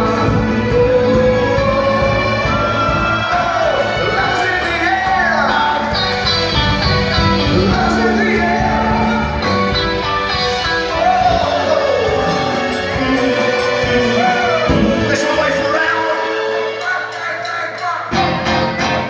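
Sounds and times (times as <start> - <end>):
live dance band playing: 0.0 - 19.0
person singing: 0.0 - 19.0.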